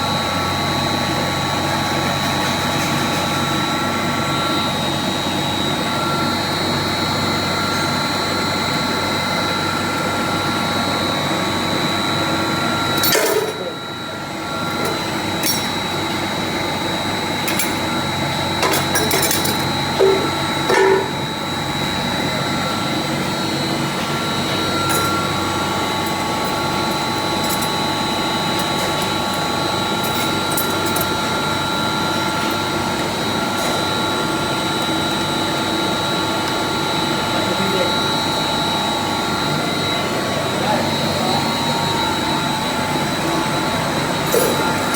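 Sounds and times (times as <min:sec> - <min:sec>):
machine drone with whine: 0:00.0 - 0:44.9.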